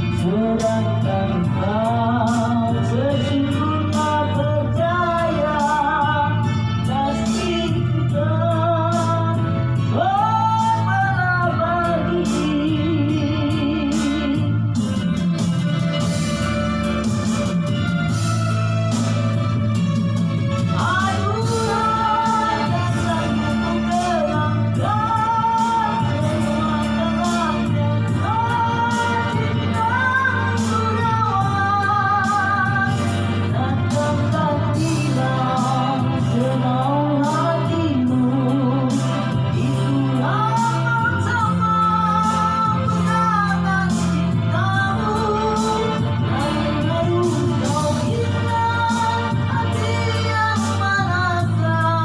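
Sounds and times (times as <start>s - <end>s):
man singing with vibrato: 0.0s - 16.2s, 20.7s - 52.0s
band accompaniment with drums: 0.0s - 52.0s.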